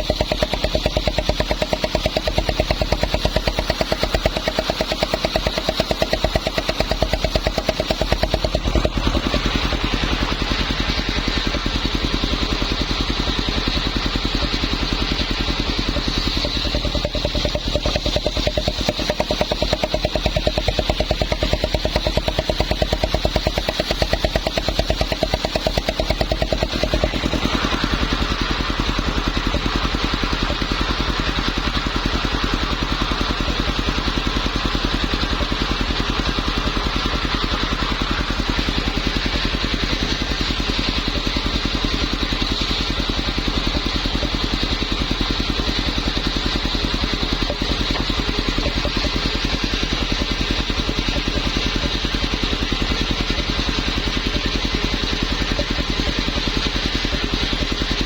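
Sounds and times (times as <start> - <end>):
engine-driven circular saw running: 0.0 - 58.0.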